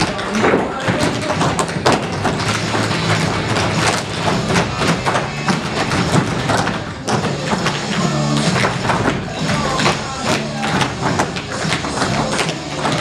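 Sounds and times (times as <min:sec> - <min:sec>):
backing music track: 0:00.0 - 0:13.0
tap shoes striking stage: 0:00.0 - 0:13.0.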